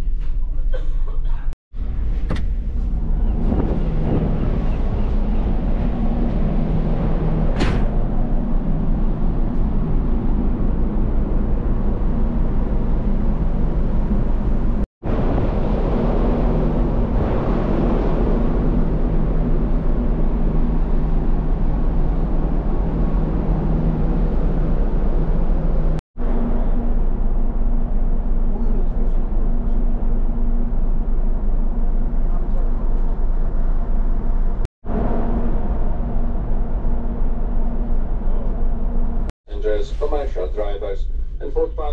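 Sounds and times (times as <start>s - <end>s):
ferry engine drone: 0.0s - 41.9s.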